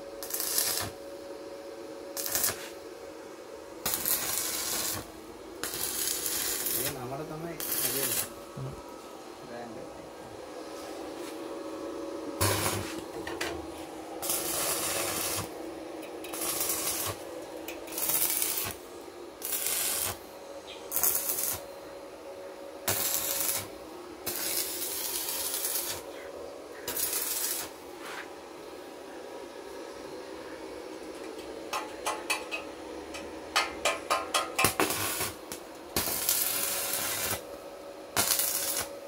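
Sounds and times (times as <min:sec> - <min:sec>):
arc welder crackling: 0:00.0 - 0:01.2, 0:02.1 - 0:02.9, 0:03.6 - 0:11.5, 0:12.2 - 0:22.1, 0:22.7 - 0:28.3, 0:30.9 - 0:39.0.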